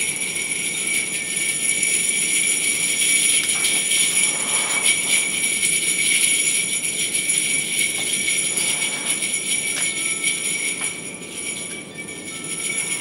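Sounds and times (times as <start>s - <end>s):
jingle bells shaken: 0.0s - 13.0s.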